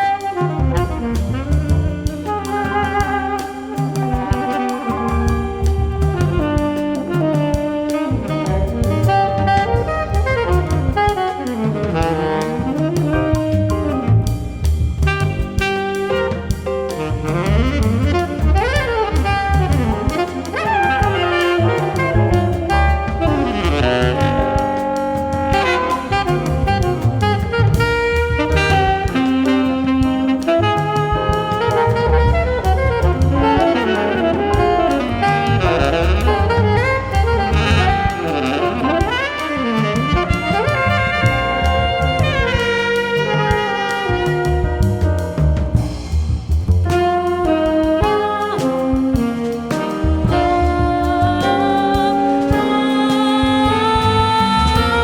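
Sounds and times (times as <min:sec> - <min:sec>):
bass: 0:00.0 - 0:55.0
drum kit: 0:00.0 - 0:55.0
piano: 0:00.0 - 0:55.0
saxophone runs: 0:00.0 - 0:55.0.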